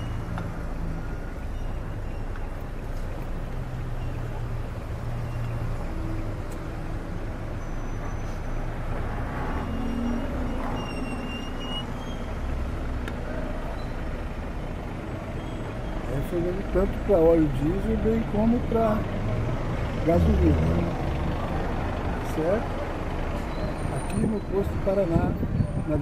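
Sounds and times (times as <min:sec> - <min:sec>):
passing traffic: 0:00.0 - 0:26.0.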